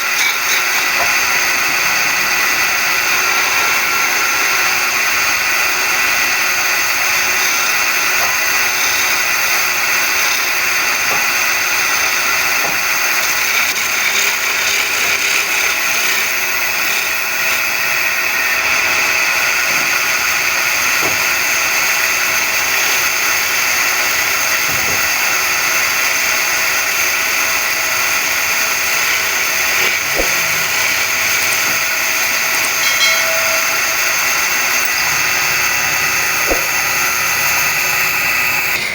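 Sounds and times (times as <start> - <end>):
wood lathe whining: 0.0 - 38.9.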